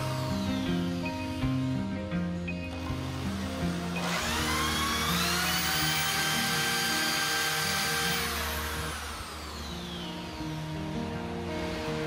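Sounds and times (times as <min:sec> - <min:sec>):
background music: 0:00.0 - 0:12.0
cordless drill whining: 0:00.0 - 0:12.0.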